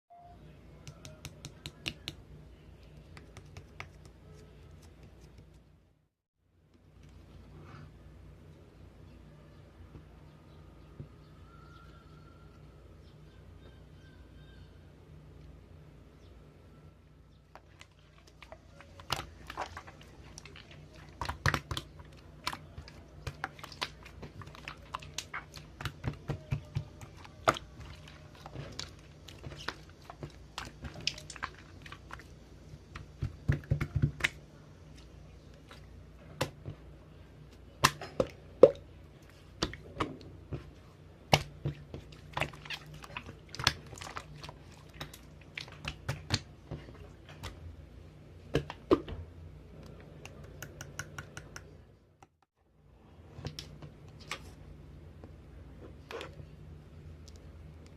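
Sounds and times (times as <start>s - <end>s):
low steady hum: 0.1s - 57.9s.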